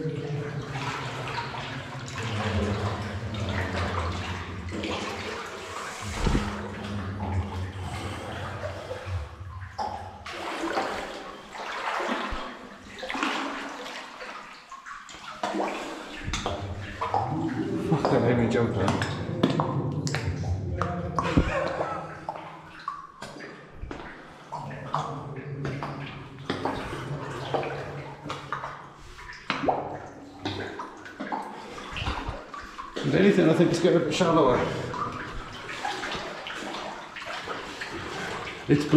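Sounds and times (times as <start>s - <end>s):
water sloshing around wading person: 0.0s - 38.9s.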